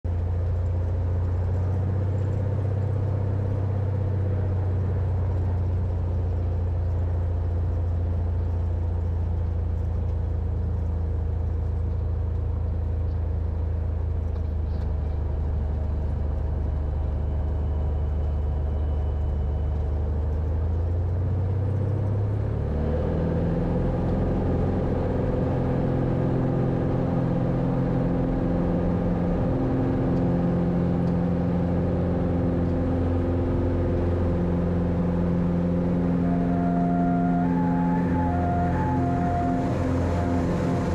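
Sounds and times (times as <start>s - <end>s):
plane engine and propeller: 0.1s - 40.9s.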